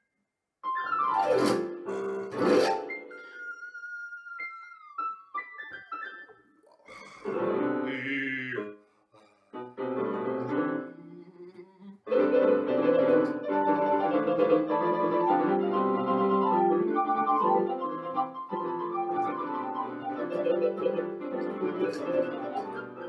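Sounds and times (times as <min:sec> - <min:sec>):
digital piano playing: 0:00.6 - 0:03.5, 0:04.4 - 0:06.5, 0:07.3 - 0:08.8, 0:09.6 - 0:10.9, 0:12.1 - 0:23.0.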